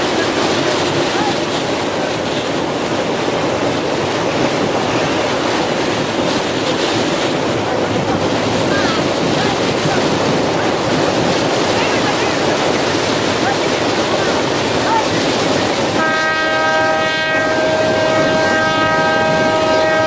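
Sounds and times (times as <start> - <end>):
sea waves: 0.0 - 20.0
wind rushing over microphone: 0.0 - 20.0.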